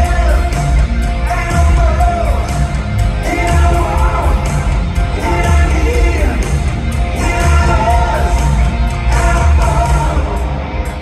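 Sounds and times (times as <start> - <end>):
person singing lead vocal: 0.0 - 11.0
rock band playing live: 0.0 - 11.0.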